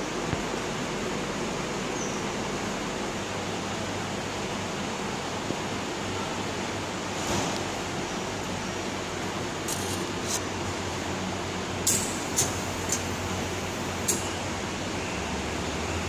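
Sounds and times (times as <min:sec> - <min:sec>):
ventilation hiss: 0:00.0 - 0:16.0.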